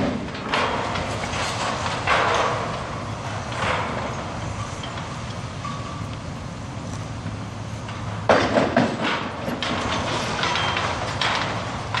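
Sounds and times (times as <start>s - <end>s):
crane engine hum: 0.0s - 12.0s.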